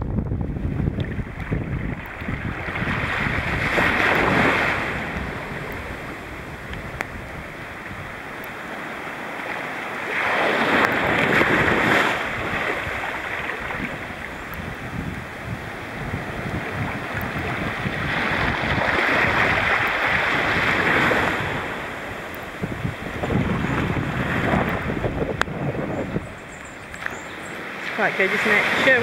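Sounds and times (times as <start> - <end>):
wind buffeting microphone: 0.0 - 29.0
sea water splashing around boat: 0.5 - 29.0.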